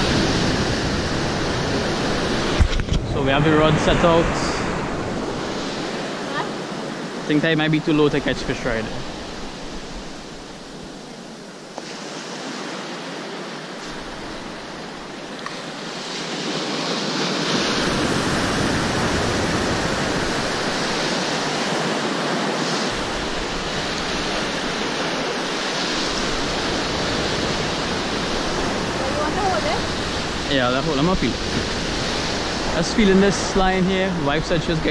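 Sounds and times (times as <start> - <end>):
rough sea surf breaking: 0.0 - 34.9.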